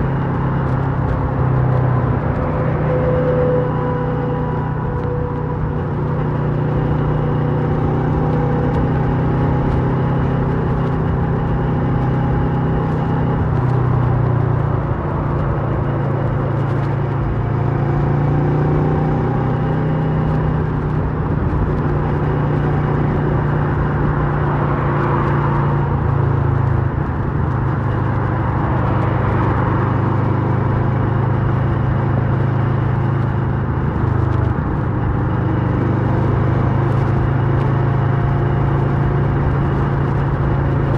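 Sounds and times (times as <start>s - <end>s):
motorcycle engine revving: 0.0s - 40.9s
wind and road noise: 0.0s - 40.9s.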